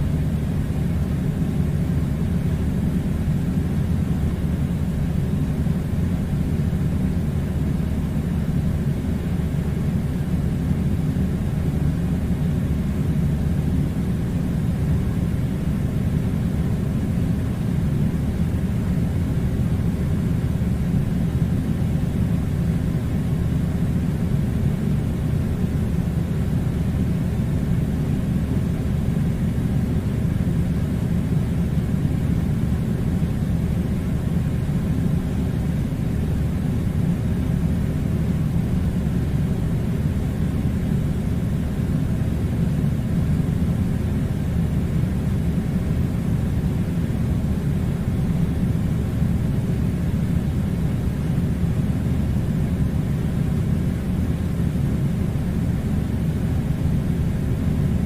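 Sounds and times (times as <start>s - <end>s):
air conditioner blowing air: 0.0s - 58.0s.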